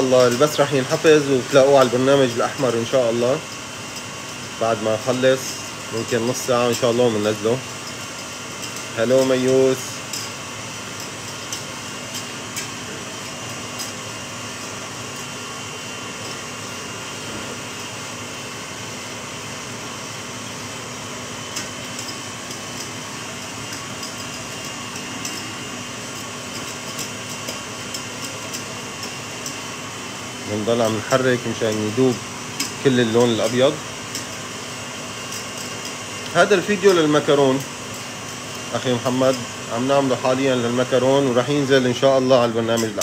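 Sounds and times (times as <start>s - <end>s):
whisk ticking in metal saucepan: 0.0s - 15.5s, 21.5s - 43.0s
fan-like mechanical hum: 0.0s - 43.0s.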